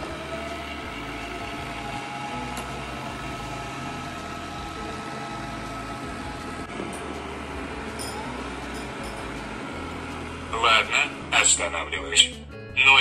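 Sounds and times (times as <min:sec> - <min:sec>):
robot vacuum humming: 0:00.0 - 0:11.3
thin steady whine: 0:00.0 - 0:12.2.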